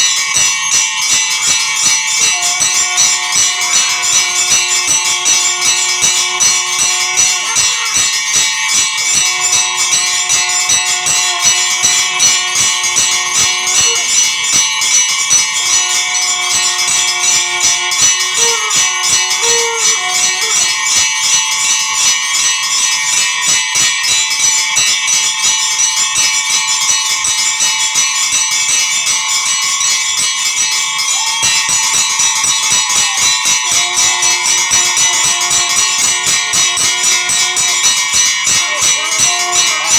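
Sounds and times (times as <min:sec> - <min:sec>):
temple bells ringing rapidly: 0:00.0 - 0:39.9.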